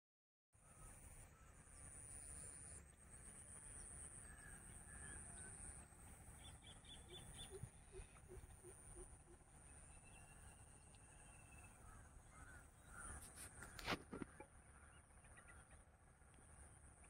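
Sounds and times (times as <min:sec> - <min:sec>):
distant birds calling: 0:00.6 - 0:17.0.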